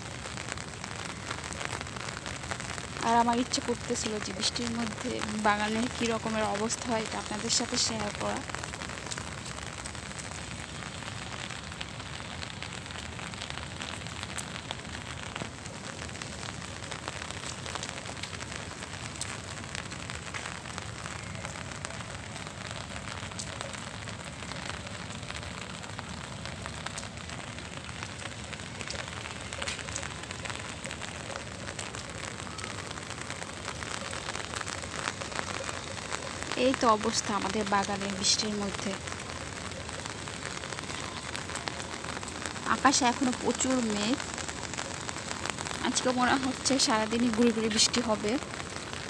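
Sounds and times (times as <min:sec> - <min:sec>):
rain falling on leaves: 0:00.0 - 0:49.0.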